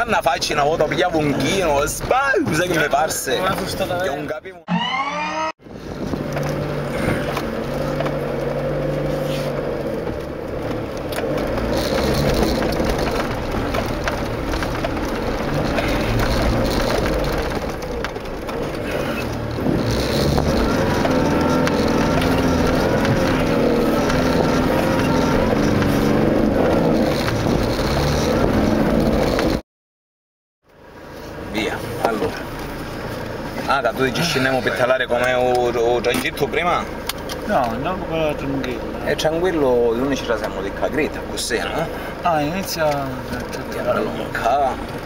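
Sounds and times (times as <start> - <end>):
car engine running in cabin: 0.1 - 29.6, 30.7 - 45.0.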